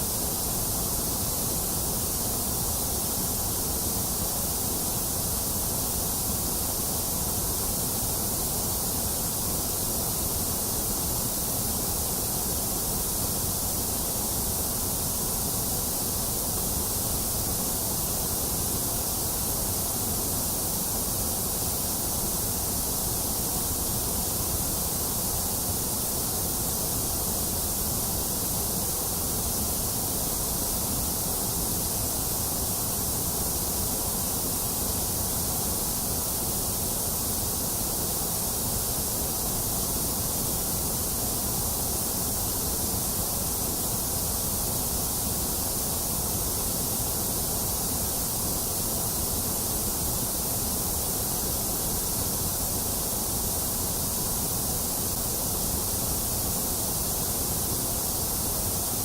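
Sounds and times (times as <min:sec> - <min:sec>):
electronic white noise hiss: 0:00.0 - 0:59.0.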